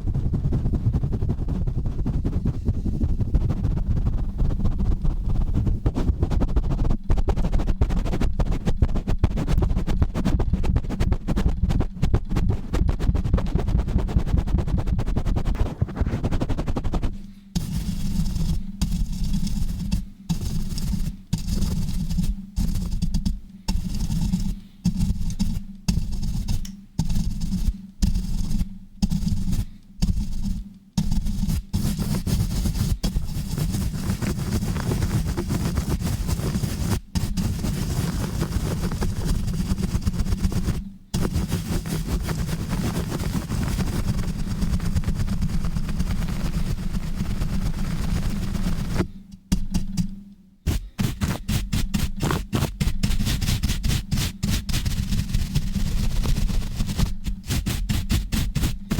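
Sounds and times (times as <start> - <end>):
rubbing and scratching on microphone: 0.0 - 58.9.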